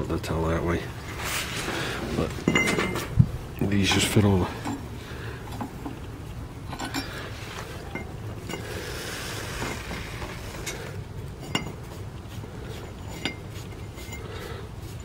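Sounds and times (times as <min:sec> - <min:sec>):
metal u-bolts clinking and scraping: 0:01.0 - 0:15.0.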